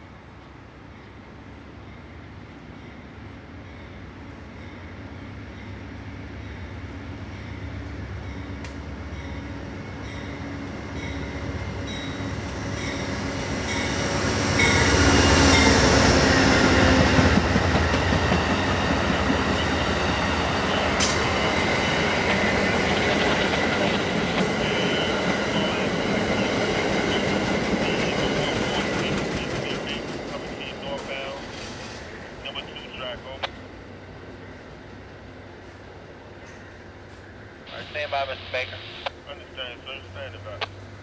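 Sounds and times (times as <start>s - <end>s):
diesel locomotive passing: 0.0s - 41.0s
train cars rolling on rails: 0.5s - 40.6s.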